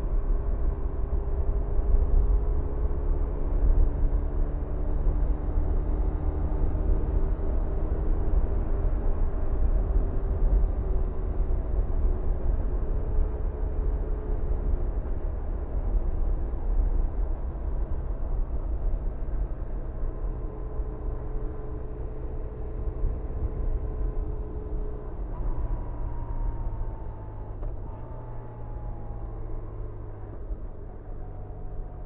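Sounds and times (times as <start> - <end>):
wind and road rumble: 0.0 - 32.0.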